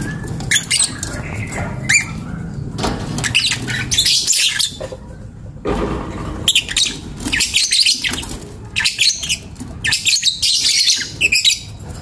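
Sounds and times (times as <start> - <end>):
lovebirds squawking: 0.0 - 5.0, 6.4 - 12.0.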